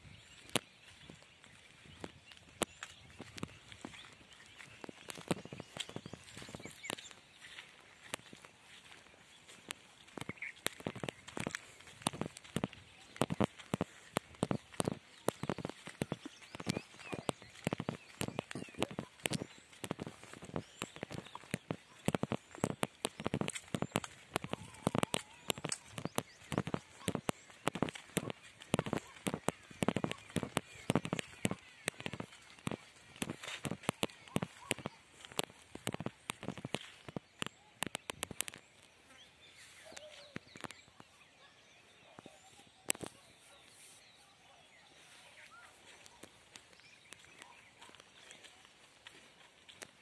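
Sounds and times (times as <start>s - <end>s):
faint bird chirps: 0.0s - 50.0s
sharp crackling clicks and snaps: 0.3s - 39.2s, 39.9s - 41.1s, 42.2s - 43.2s, 45.9s - 50.0s.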